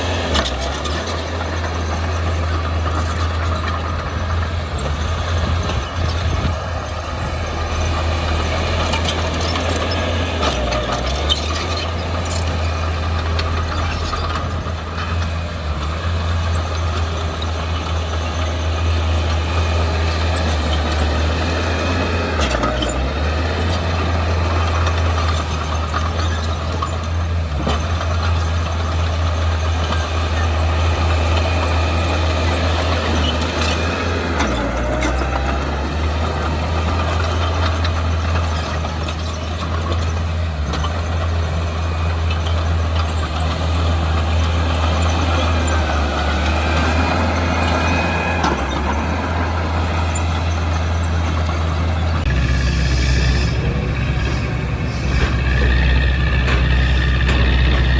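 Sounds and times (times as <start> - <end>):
heavy machinery engine hum: 0.0 - 57.9.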